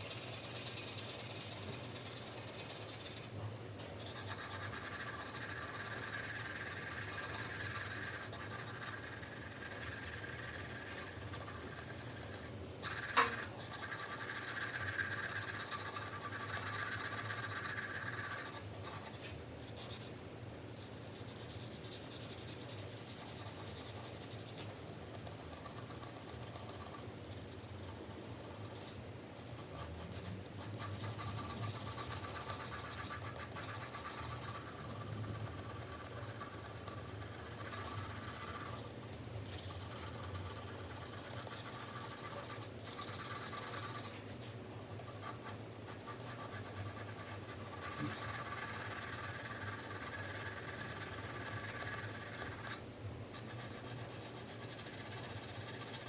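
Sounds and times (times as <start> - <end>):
pencil scratching on paper: 0.0 - 3.4, 4.0 - 20.1, 20.8 - 44.2, 44.9 - 56.0.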